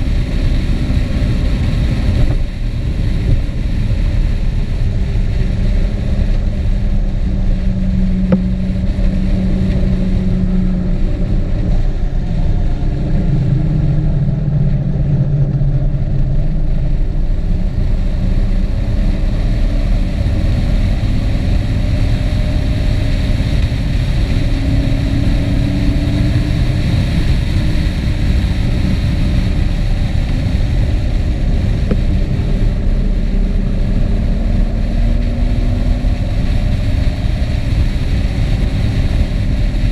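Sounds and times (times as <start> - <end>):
engine hum: 0.0 - 39.9
wind rumble on microphone: 0.0 - 39.9.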